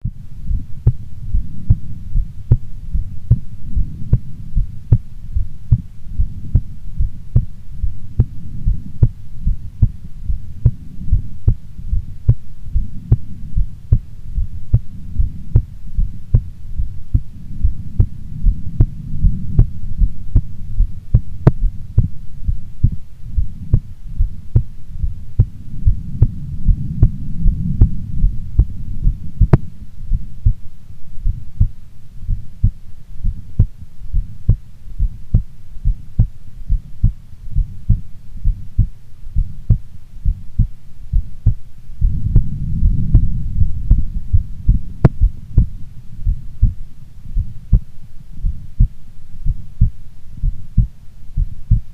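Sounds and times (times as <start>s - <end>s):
heartbeat thumps: 0.0s - 51.9s
low rumble: 0.0s - 51.9s.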